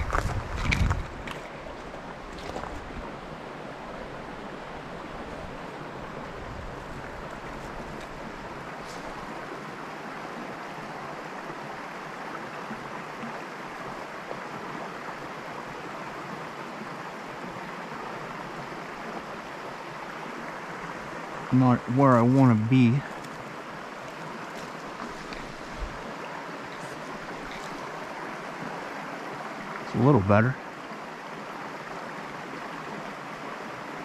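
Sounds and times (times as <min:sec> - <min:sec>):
stream flowing over riffle: 0:00.0 - 0:34.0.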